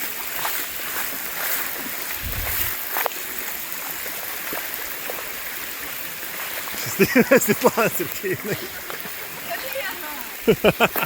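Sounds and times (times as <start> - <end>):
small water splashes: 0.0 - 10.5
floodwater rushing: 0.0 - 11.0.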